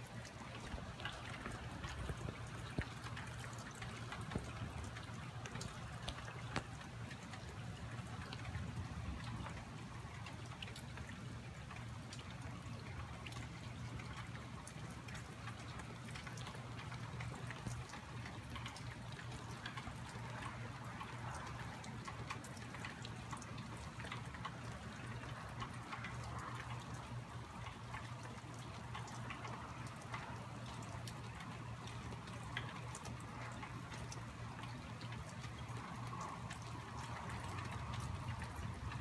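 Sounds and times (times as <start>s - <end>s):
low steady hum: 0.0s - 39.0s
rain falling: 0.0s - 39.0s.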